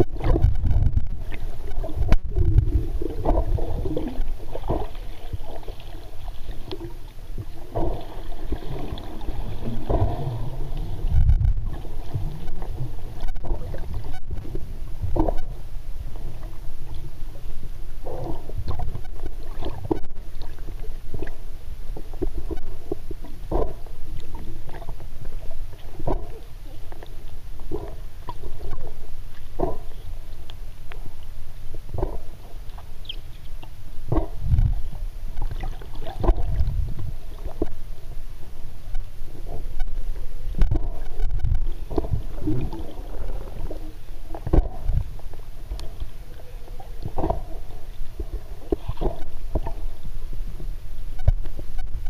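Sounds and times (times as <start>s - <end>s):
underwater rumble of moving water: 0.0s - 52.0s.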